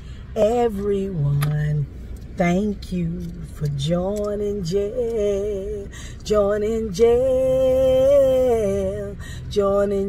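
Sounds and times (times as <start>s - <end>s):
woman singing unaccompanied: 0.3s - 10.0s.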